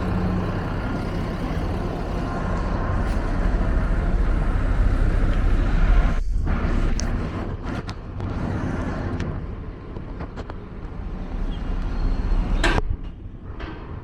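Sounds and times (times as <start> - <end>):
vehicle traffic rumble: 0.0 - 14.0.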